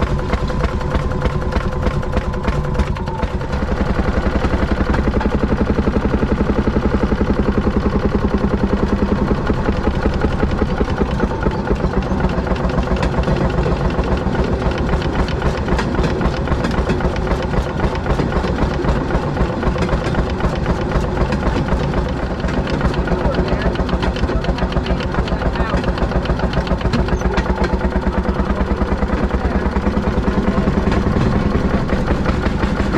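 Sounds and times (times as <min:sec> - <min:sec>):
two-stroke engine running: 0:00.0 - 0:32.9.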